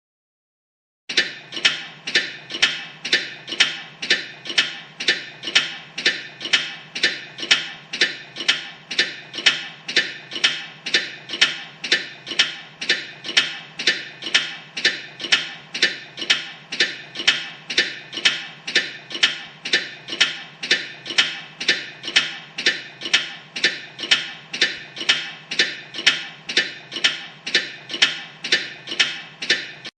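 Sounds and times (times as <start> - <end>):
mechanical clock ticking: 1.1 - 30.0.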